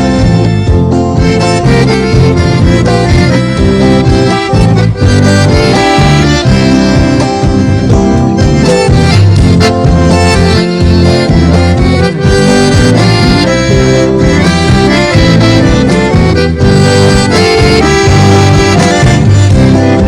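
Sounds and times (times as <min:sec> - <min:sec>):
accordion melody: 0:00.0 - 0:20.0
rhythmic backing with bass: 0:00.0 - 0:20.0.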